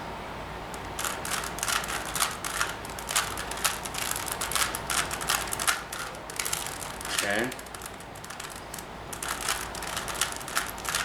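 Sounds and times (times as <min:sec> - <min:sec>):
puzzle cube plastic clicking: 0:00.8 - 0:11.0.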